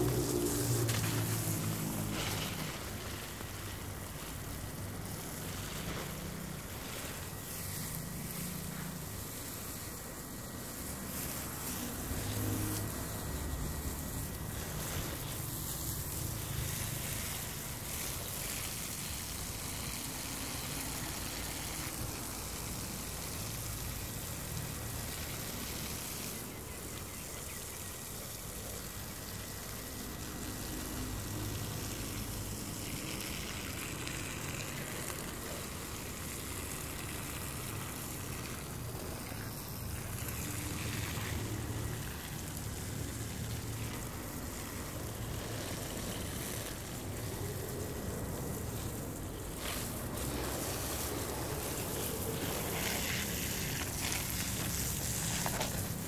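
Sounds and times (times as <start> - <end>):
garden hose spraying water: 0.0 - 56.0.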